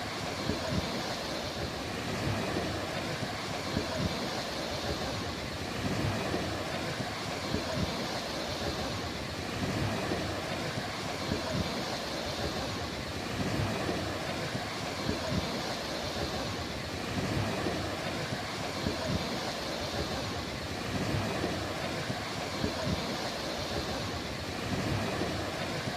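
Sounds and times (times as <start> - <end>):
sea surf washing on shore: 0.0 - 25.9
wind: 0.0 - 25.9.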